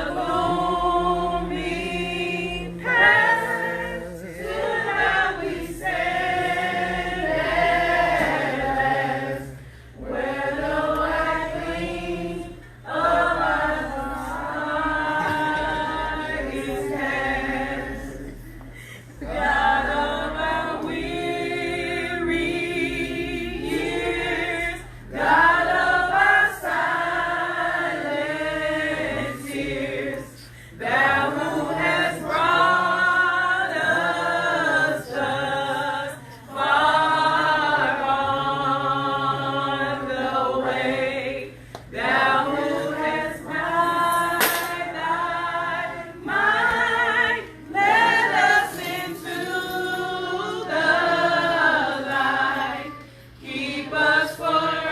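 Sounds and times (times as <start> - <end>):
group singing a cappella: 0.0 - 54.9.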